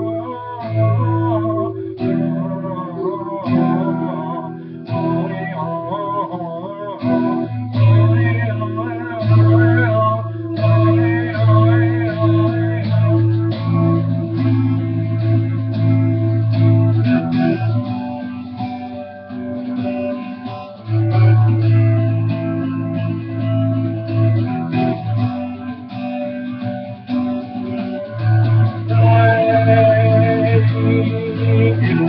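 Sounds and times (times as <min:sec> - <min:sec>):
guitar playing: 0:00.0 - 0:32.0.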